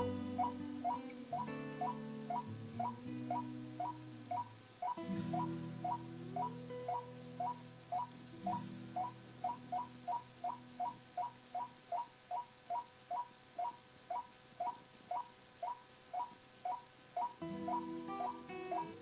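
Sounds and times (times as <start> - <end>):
faint low recording hum: 0.0 - 19.0
waterhen calls: 0.0 - 19.0.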